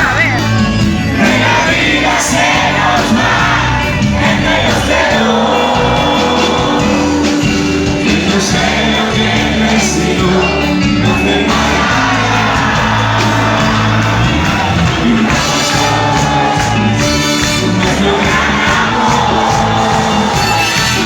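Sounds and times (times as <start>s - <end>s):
live band music: 0.0s - 21.0s
crowd shouting and whooping: 0.1s - 21.0s.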